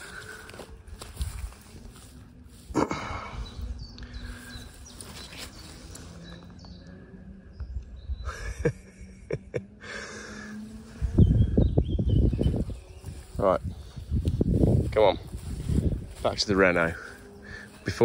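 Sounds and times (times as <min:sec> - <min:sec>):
wind rumbling on microphone: 0:00.0 - 0:09.3, 0:10.5 - 0:18.0.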